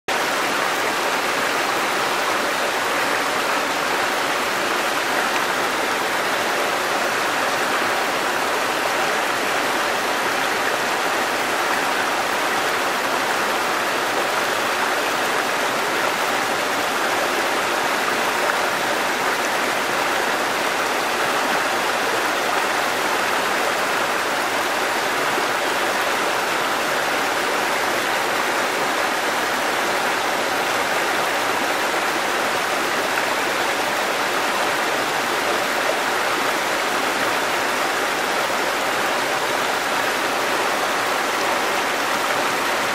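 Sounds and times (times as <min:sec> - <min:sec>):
stream rushing over rocks: 0:00.1 - 0:42.9.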